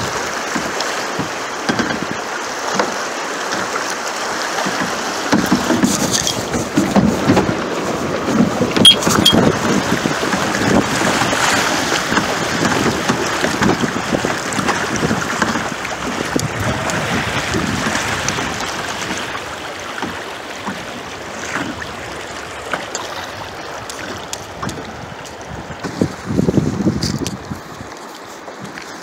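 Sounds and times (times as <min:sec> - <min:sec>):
water rushing in a creek: 0:00.0 - 0:29.0.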